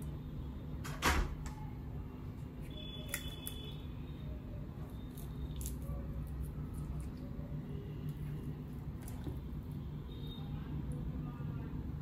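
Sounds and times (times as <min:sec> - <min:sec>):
low steady hum: 0:00.0 - 0:12.0
soft wet food mixing sounds: 0:01.6 - 0:12.0.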